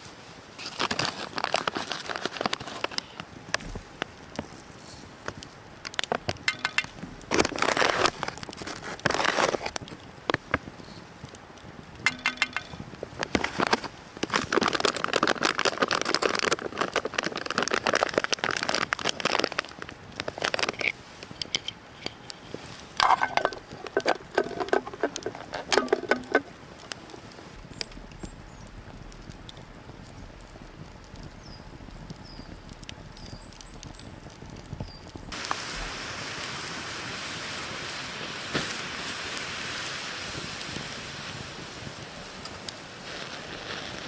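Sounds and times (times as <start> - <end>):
rustling and crackling with clicks: 0.0 - 35.6.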